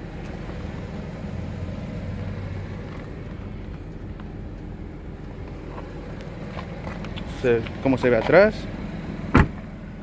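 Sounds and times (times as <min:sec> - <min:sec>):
car engine idling hum: 0:00.0 - 0:10.0.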